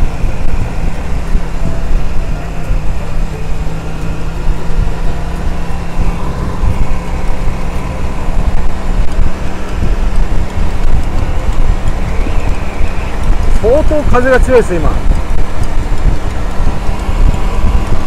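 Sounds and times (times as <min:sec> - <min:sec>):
motorcycle engine cruising: 0:00.0 - 0:18.0
wind buffeting microphone: 0:00.0 - 0:18.0.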